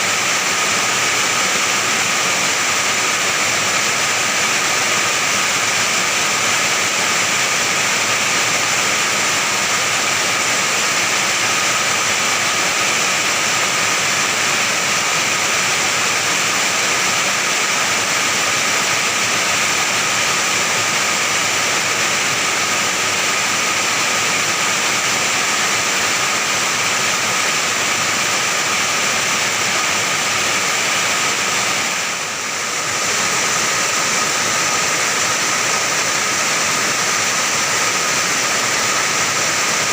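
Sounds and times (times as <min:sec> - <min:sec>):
heavy rain on an iron roof: 0:00.0 - 0:39.9.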